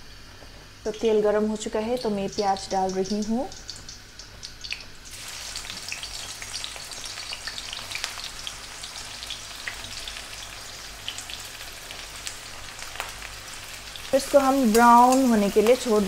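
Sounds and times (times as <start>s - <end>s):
onions frying in hot oil: 0.0s - 16.0s.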